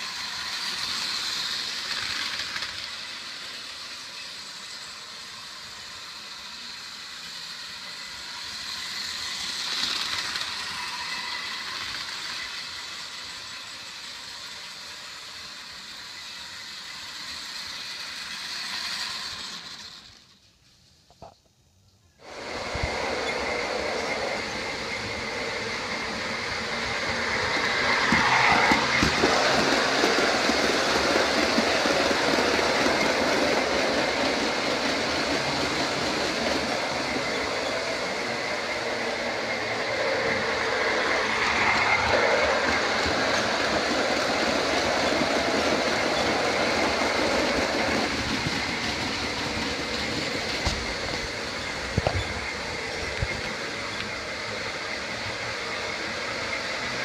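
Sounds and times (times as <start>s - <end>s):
model train wheels rattling: 0.0s - 57.0s.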